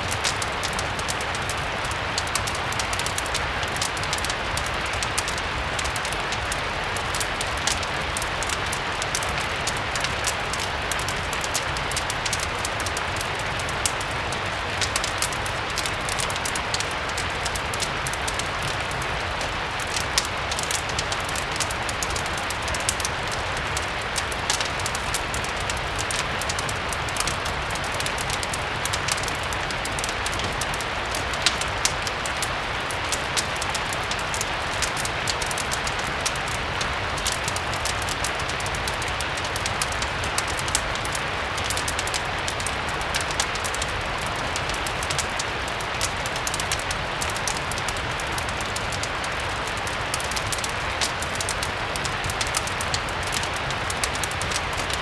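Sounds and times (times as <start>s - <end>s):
fireplace fire crackling: 0.0s - 55.0s
steady rain hiss: 0.0s - 55.0s.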